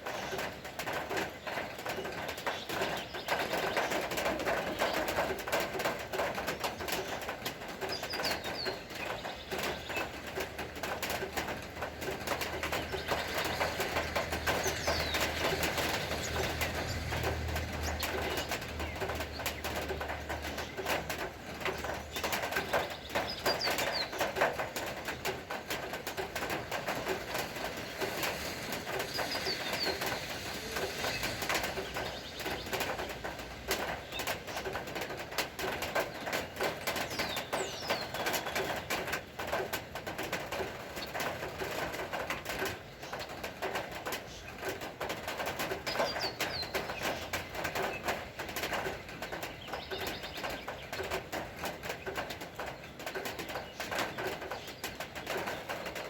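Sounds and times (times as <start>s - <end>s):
birds calling: 0.0s - 56.0s
rain pattering: 0.0s - 56.0s.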